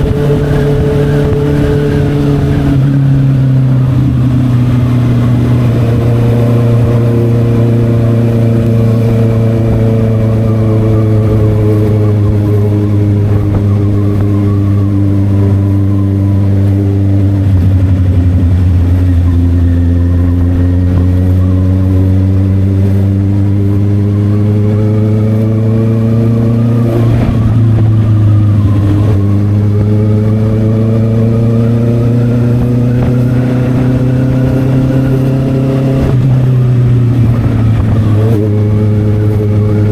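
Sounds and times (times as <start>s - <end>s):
low wind rumble: 0.0s - 39.9s
motorcycle engine: 0.0s - 39.9s.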